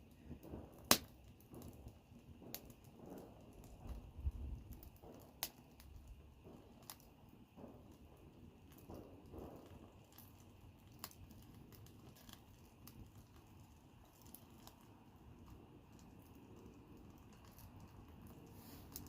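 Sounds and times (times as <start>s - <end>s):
soft steady rumble: 0.0s - 19.0s
wood fire crackling: 0.0s - 19.0s.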